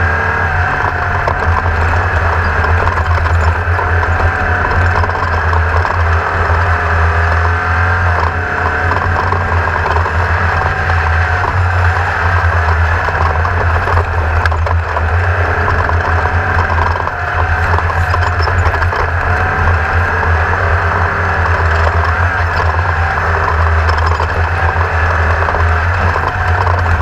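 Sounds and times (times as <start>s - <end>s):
buggy engine running hard: 0.0s - 27.0s
chassis rattling on rough ground: 0.0s - 27.0s.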